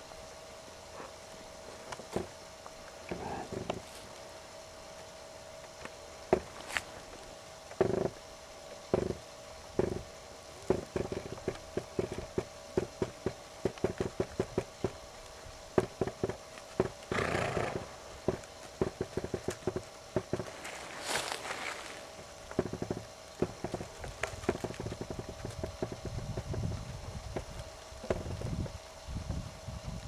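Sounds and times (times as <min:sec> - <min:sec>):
horse hooves beating: 0:01.0 - 0:04.2, 0:05.7 - 0:08.2, 0:08.8 - 0:29.3.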